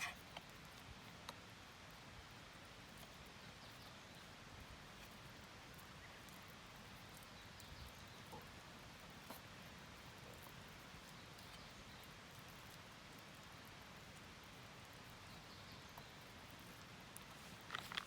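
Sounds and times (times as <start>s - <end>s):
faint ticks: 0.0s - 4.0s, 5.0s - 18.0s.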